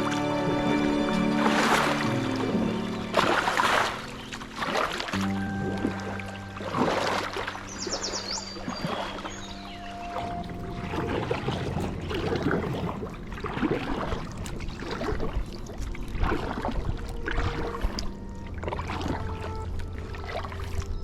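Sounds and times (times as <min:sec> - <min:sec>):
kayak paddle swishing in water: 0:00.0 - 0:21.0.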